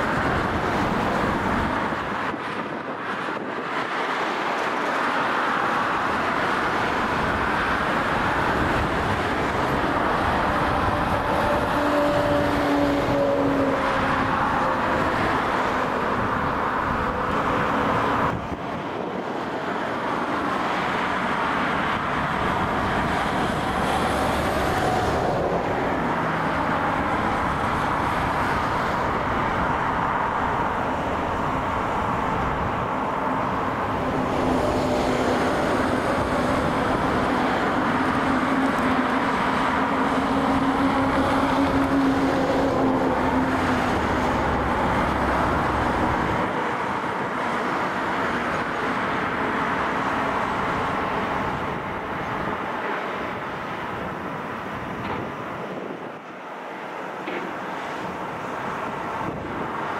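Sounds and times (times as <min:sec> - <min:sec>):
airliner jet engines rushing: 0:00.0 - 0:59.9.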